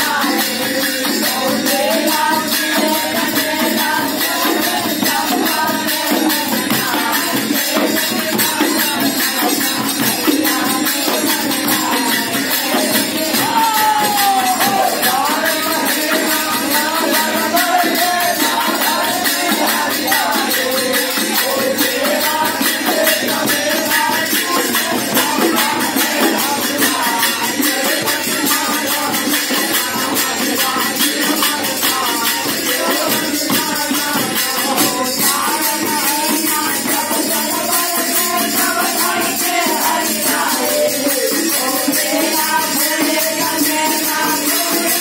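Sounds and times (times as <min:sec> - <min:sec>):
hand drum: 0:00.0 - 0:45.0
jingle rattles shaking: 0:00.0 - 0:45.0
men singing folk song: 0:00.0 - 0:45.0.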